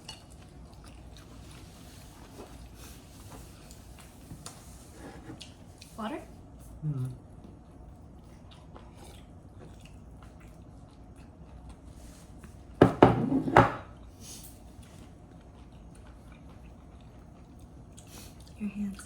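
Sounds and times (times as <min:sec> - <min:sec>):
faint chewing: 0:00.0 - 0:04.6, 0:06.6 - 0:12.7, 0:14.0 - 0:19.0.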